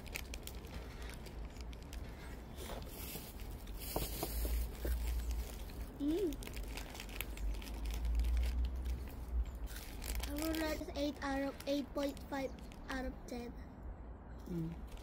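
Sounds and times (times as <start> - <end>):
plastic wrapper crinkling and tearing: 0.0 - 12.9.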